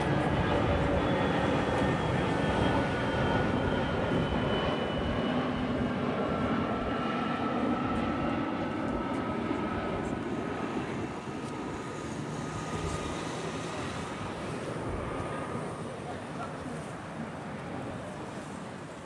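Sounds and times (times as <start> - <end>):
airliner passing close by: 0.0 - 19.0.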